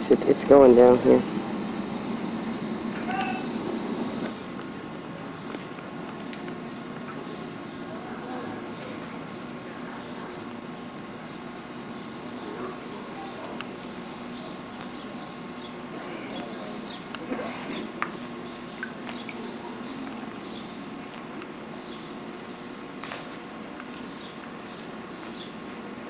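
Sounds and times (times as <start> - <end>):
insects chirping: 0.0 - 26.0.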